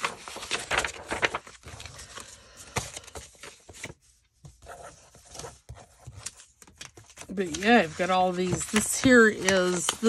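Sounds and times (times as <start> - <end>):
papers rustling and shuffling: 0.0 - 10.0.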